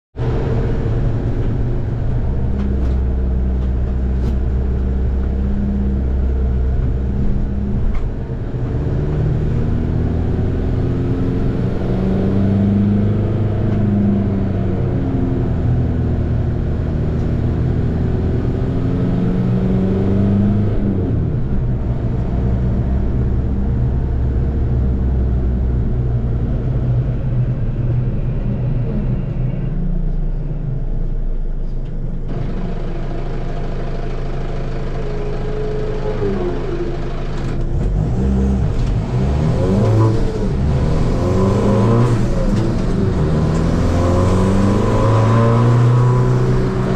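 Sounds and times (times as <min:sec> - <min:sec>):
car engine revving under load: 0:00.2 - 0:46.9.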